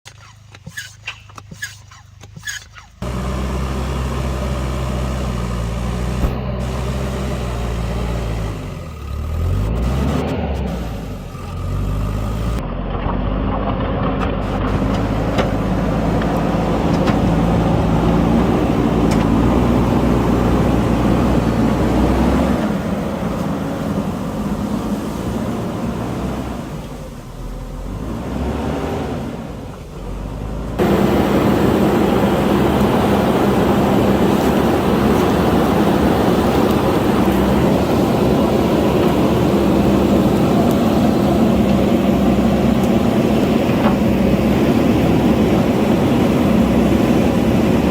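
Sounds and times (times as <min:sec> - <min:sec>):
diesel engine running: 0:03.0 - 0:47.9.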